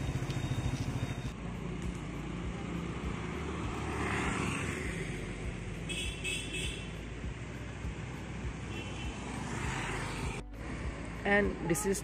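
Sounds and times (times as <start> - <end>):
motorbike passing: 0.0 - 6.0, 7.1 - 11.6
street traffic noise: 0.0 - 12.0.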